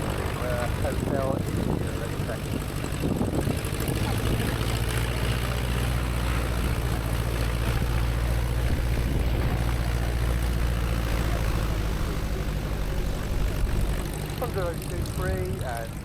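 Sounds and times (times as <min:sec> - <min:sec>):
light aircraft engine idling: 0:00.0 - 0:16.0.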